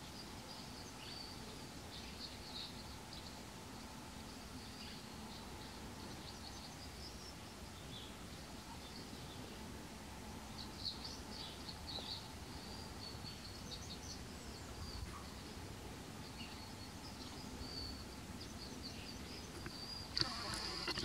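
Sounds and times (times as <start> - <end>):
faint outdoor hiss: 0.0 - 21.0
small birds chirping: 0.0 - 21.0.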